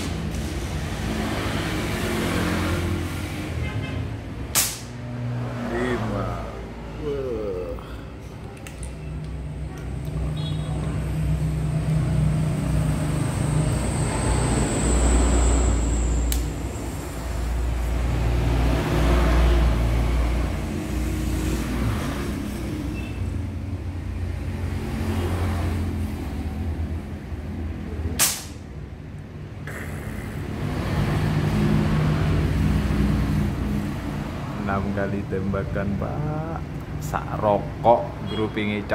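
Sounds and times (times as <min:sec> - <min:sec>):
passing vehicles rumbling: 0:00.0 - 0:38.9.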